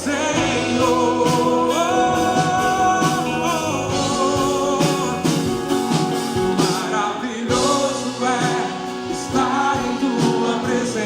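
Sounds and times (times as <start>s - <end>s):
live worship band playing: 0.0s - 11.0s
person singing: 0.0s - 11.0s.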